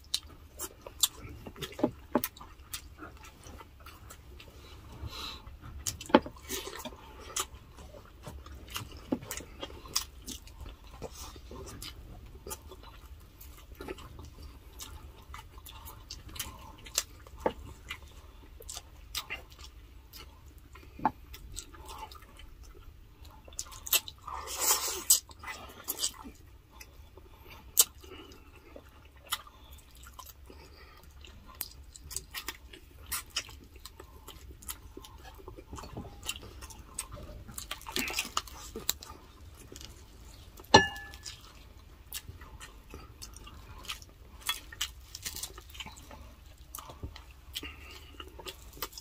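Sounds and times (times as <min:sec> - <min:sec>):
wet chewing: 0:00.0 - 0:49.0.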